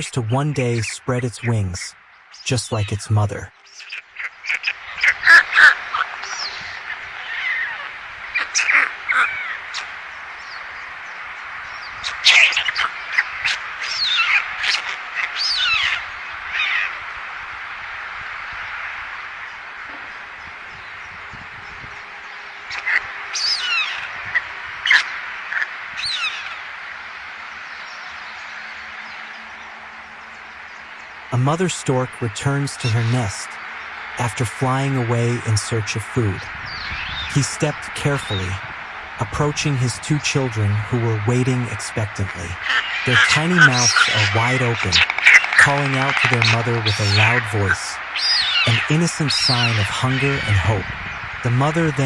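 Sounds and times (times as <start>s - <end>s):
bird chorus hiss: 0.0s - 52.0s
birds squawking and chirping: 0.0s - 52.0s.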